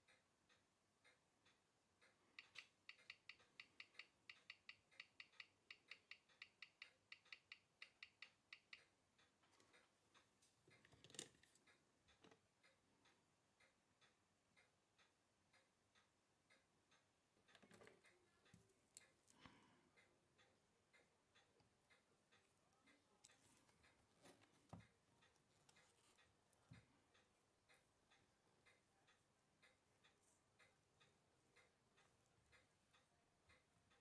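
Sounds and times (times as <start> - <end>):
watch ticking: 0.0 - 34.0.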